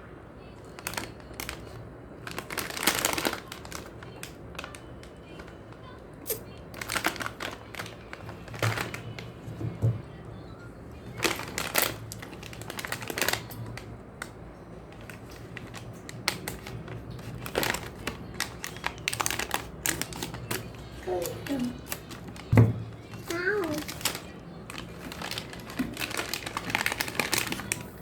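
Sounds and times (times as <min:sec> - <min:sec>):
plastic packaging crinkling: 0:00.6 - 0:09.7, 0:10.9 - 0:28.0.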